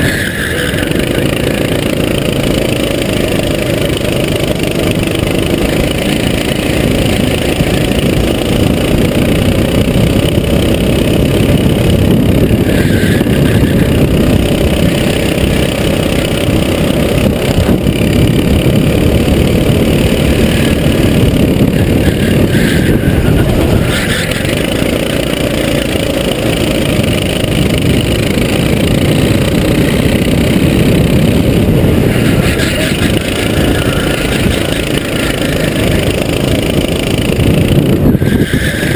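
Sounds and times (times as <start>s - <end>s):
kart engine running: 0.0s - 38.9s
wind rumble on microphone: 0.0s - 38.9s.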